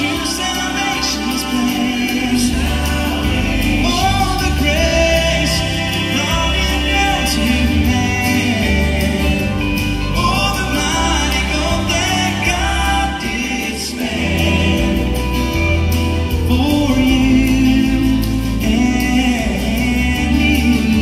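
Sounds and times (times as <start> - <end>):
gospel singing with band: 0.0 - 21.0.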